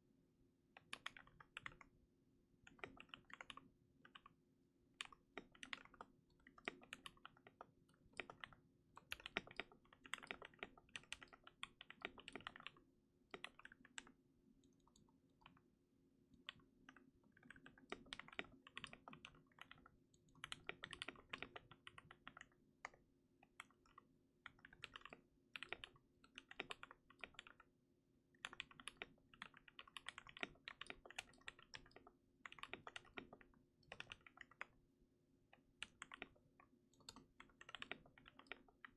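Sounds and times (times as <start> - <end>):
typing on mechanical keyboard: 0.8 - 1.9, 2.6 - 4.4, 5.0 - 15.6, 16.3 - 27.7, 28.4 - 34.8, 35.6 - 38.9.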